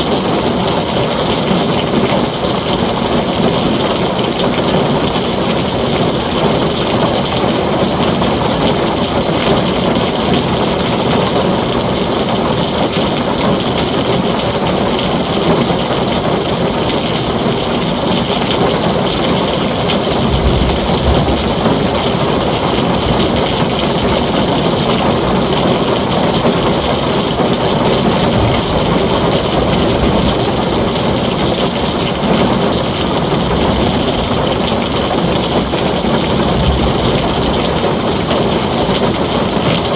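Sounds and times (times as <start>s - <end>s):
heavy rain on a tin roof: 0.0s - 39.9s
low rumble of thunder: 3.0s - 39.9s.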